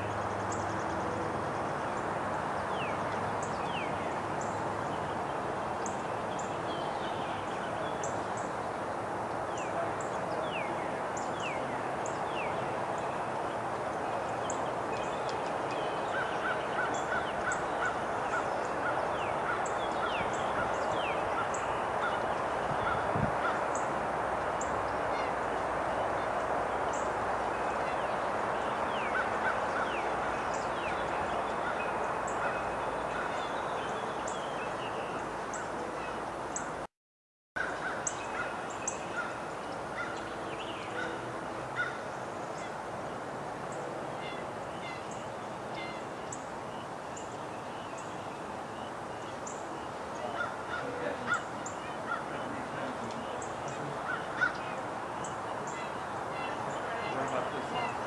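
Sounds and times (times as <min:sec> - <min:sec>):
birds chirping: 0:00.0 - 0:36.8, 0:37.6 - 0:58.0
steady noisy background: 0:00.0 - 0:36.9, 0:37.6 - 0:58.0.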